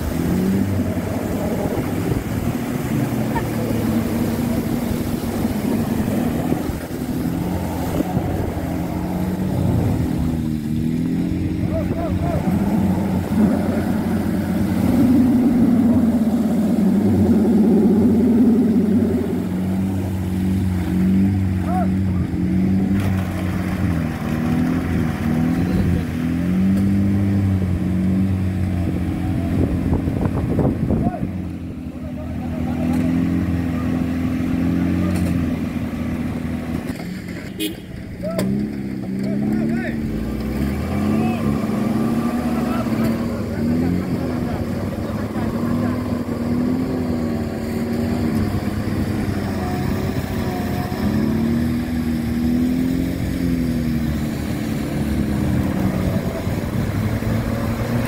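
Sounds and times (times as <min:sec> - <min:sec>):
car engine under load: 0:00.0 - 0:58.0
water splashing: 0:00.0 - 0:58.0.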